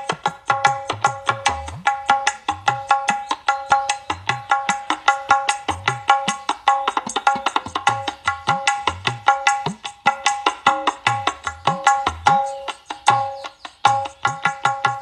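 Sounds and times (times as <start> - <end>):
percussion-heavy music: 0.0 - 15.0.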